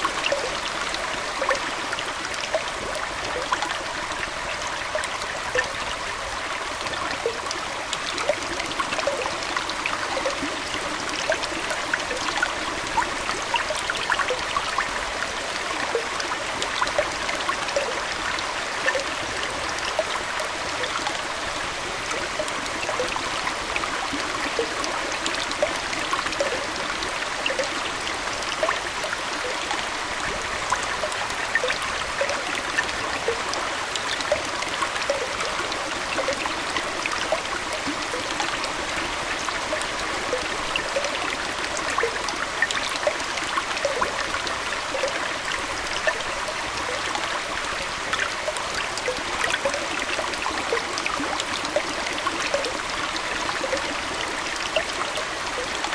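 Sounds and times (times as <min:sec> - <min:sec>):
aquarium water trickling: 0:00.0 - 0:55.9
small bubbling plinks: 0:00.0 - 0:55.9.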